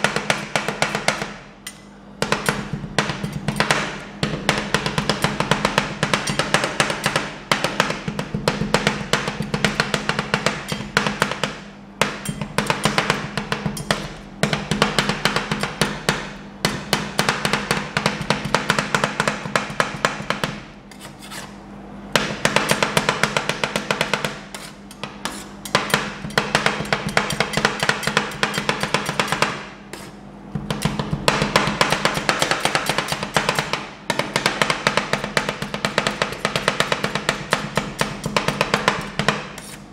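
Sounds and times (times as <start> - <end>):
metal spatulas chopping on pan: 0.0 - 39.9
steady low hum: 0.0 - 39.9.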